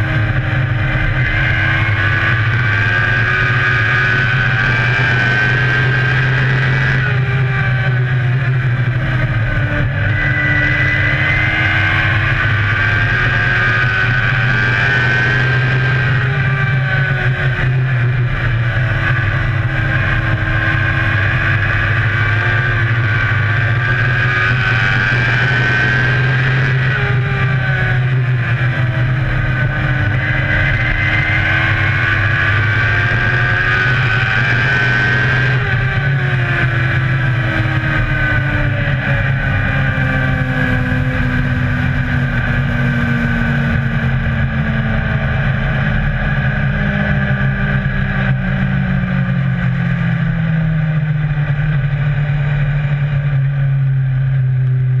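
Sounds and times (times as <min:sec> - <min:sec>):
race car engine: 0:00.0 - 0:55.0
steady low drone: 0:00.0 - 0:55.0.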